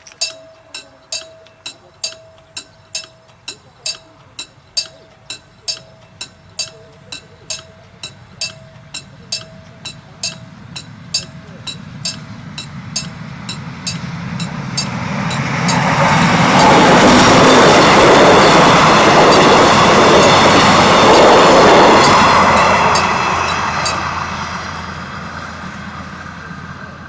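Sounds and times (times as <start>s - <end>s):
crossing warning bell dinging: 0.0s - 26.8s
train rumbling on rails: 0.0s - 27.0s.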